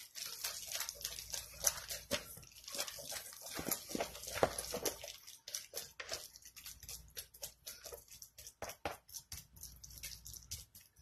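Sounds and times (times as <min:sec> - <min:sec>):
spatula scraping a bowl: 0:00.0 - 0:11.0.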